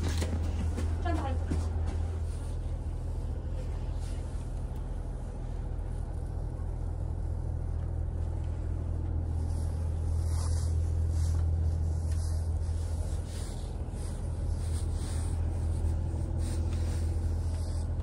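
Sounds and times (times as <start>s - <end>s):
diesel railcar engine rumble: 0.0s - 18.0s.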